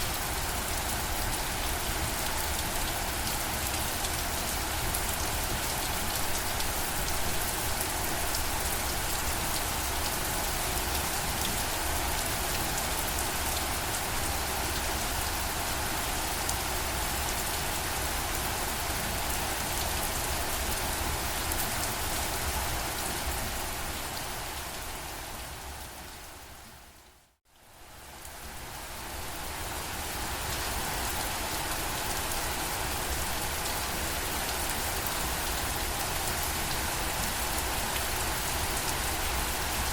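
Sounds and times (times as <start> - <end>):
rain pattering: 0.0 - 26.4, 27.6 - 39.9.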